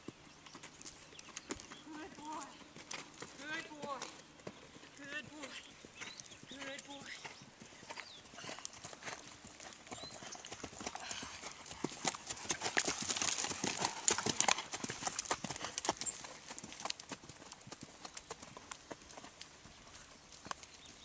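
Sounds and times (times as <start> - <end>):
horse hoofbeats on dirt: 0.0 - 21.0.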